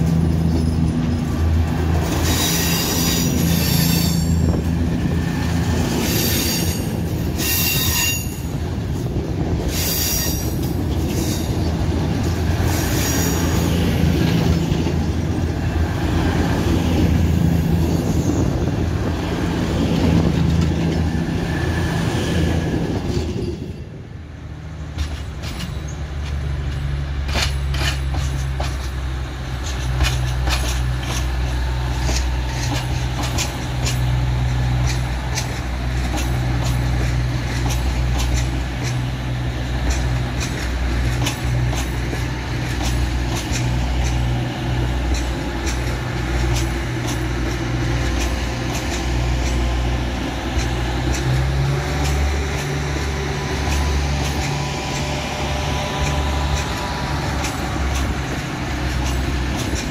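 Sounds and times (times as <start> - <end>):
diesel train engine drone: 0.0 - 59.9
train wheels clicking on track: 0.0 - 59.9.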